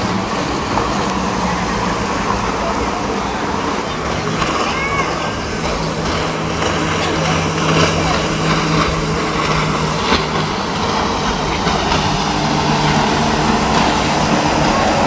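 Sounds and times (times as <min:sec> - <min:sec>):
boat engines humming: 0:00.0 - 0:15.0.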